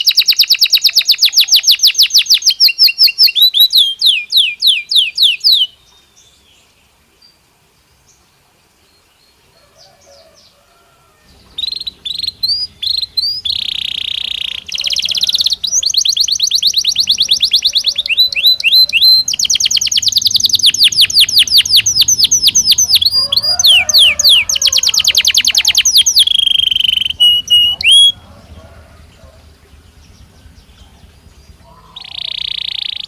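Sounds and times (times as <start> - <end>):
canary singing trills: 0.0 - 6.5, 9.6 - 33.0.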